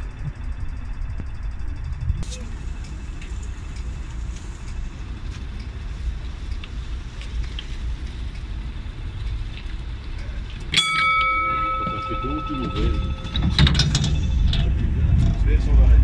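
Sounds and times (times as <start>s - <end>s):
faint clicks and rattles: 0.0s - 15.4s
tram rumbling: 0.0s - 16.0s.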